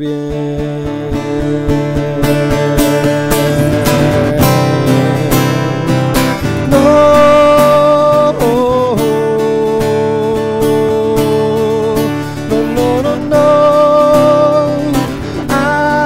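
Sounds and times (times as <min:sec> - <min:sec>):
acoustic guitar strumming: 0:00.0 - 0:16.0
man singing long notes: 0:00.0 - 0:16.0.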